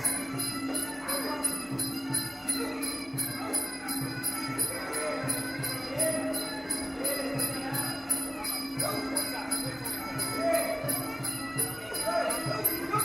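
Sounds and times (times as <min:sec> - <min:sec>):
small cymbals striking a beat: 0:00.0 - 0:13.0.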